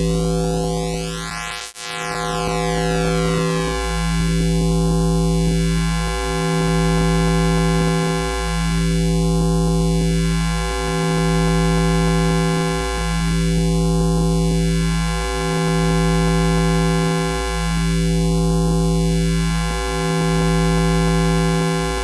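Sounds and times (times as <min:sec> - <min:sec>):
high-voltage electrical hum: 0:00.0 - 0:22.0.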